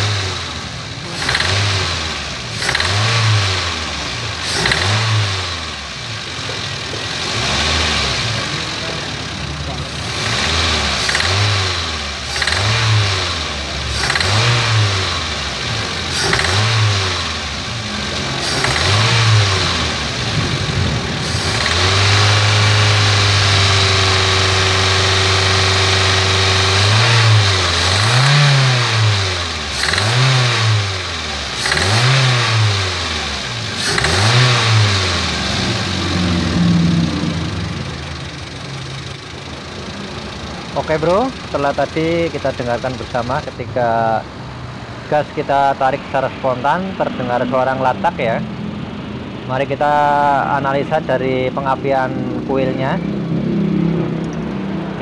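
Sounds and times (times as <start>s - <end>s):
rough engine clatter: 0.0s - 44.3s, 45.0s - 55.0s
car engine revving: 0.0s - 55.0s.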